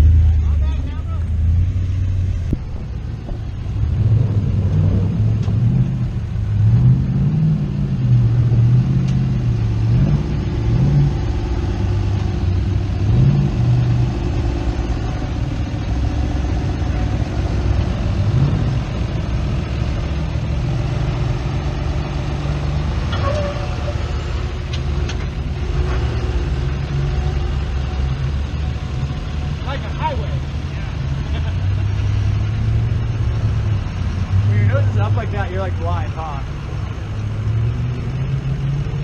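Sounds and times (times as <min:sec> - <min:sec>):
pickup truck engine revving: 0:00.0 - 0:39.0.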